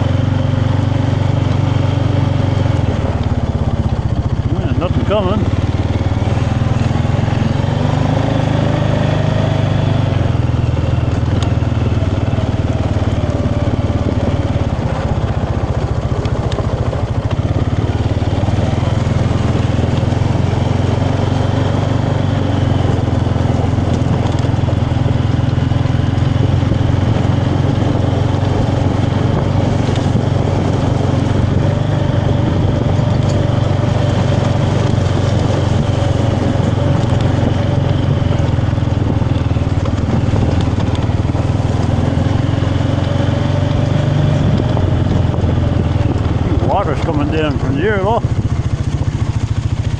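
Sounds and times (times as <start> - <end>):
small motorbike engine running: 0.0 - 49.9.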